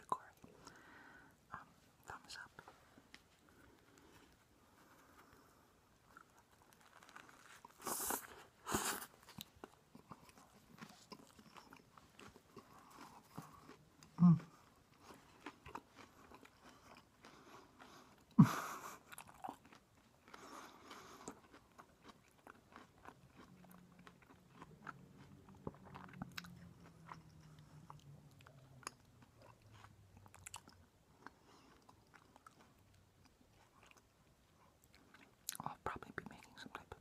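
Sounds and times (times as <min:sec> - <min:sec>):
chewing and crunching: 0:03.4 - 0:37.0.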